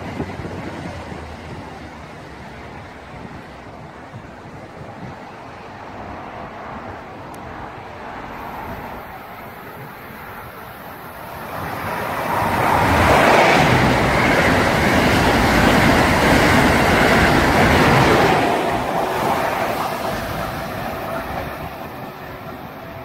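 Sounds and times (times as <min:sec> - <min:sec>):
high-speed train passing: 0:00.0 - 0:23.0.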